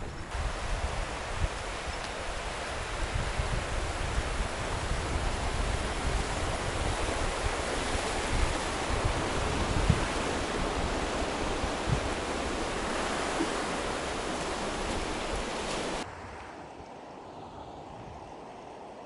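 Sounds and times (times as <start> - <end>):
waterfall rushing: 0.3 - 16.0.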